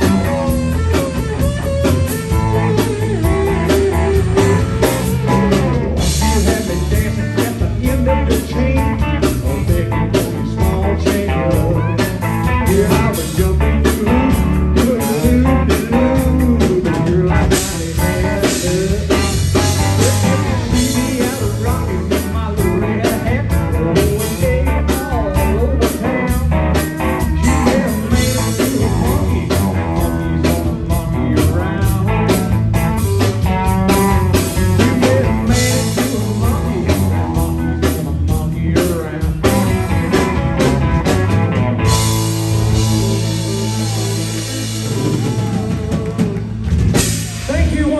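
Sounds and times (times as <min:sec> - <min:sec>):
pedal steel guitar: 0:00.0 - 0:46.3
drum kit beat: 0:00.0 - 0:47.9
electric bass: 0:00.0 - 0:47.9
electric guitar: 0:00.0 - 0:47.9.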